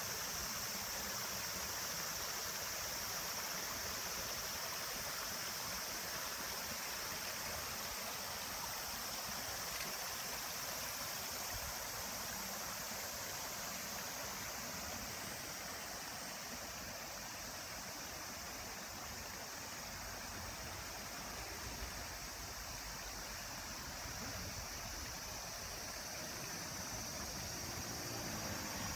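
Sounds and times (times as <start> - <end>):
stream rippling over rocks: 0.0 - 28.9.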